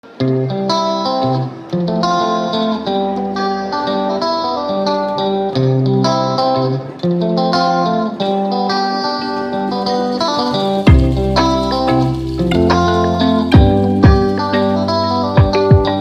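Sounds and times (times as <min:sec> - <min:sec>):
background music melody: 0:00.0 - 0:16.0.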